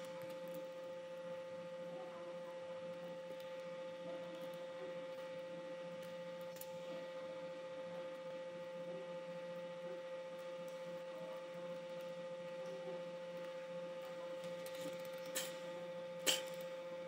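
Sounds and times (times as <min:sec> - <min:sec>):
electrical hum with whine: 0:00.0 - 0:17.0.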